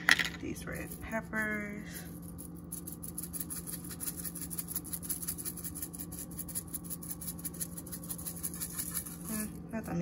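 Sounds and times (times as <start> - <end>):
spice shaker rattling: 0.0 - 10.0
steady low hum: 0.0 - 10.0.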